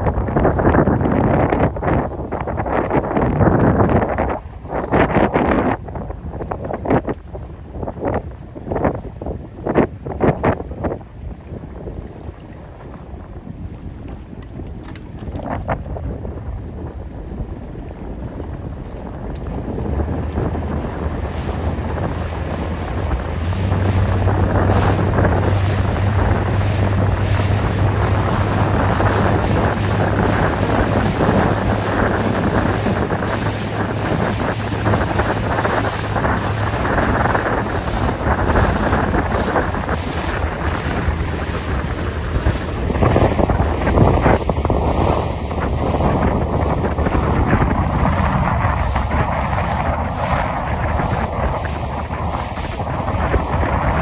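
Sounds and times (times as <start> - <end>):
choppy water splashing: 0.0 - 54.0
wind buffeting microphone: 0.0 - 54.0.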